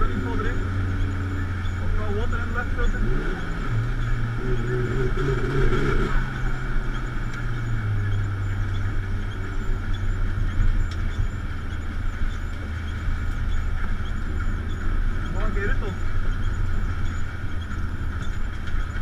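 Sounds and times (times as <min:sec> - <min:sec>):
car engine humming inside cabin: 0:00.0 - 0:19.0.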